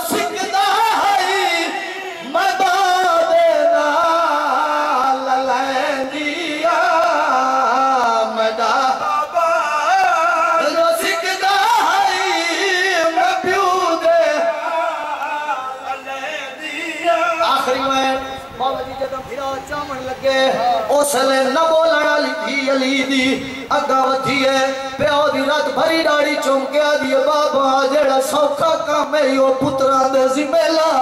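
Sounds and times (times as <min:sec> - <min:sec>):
man chanting a lament: 0:00.0 - 0:31.0.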